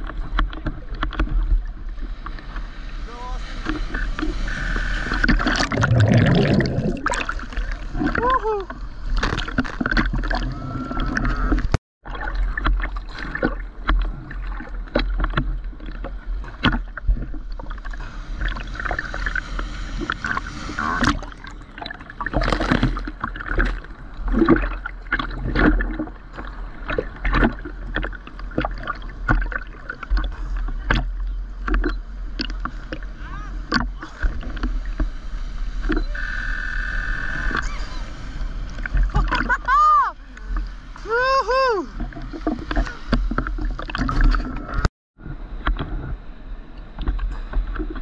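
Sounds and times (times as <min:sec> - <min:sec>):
muffled water sloshing and splashing: 0:00.0 - 0:36.2, 0:37.1 - 0:48.0.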